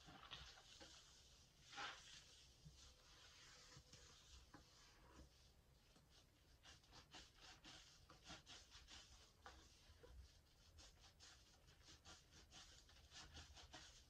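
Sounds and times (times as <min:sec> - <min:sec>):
foamy sponge squishing: 0:00.0 - 0:14.0.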